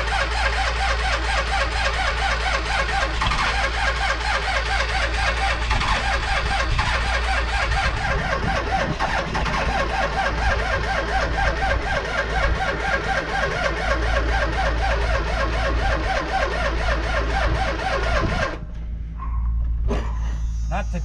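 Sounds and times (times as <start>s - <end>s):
car engine cranking: 0.0s - 21.0s.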